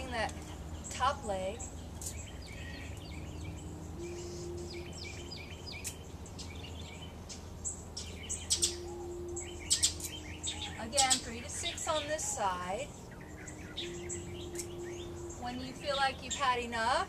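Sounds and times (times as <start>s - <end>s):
low background hum: 0.0s - 17.0s
songbirds chirping: 0.0s - 17.0s.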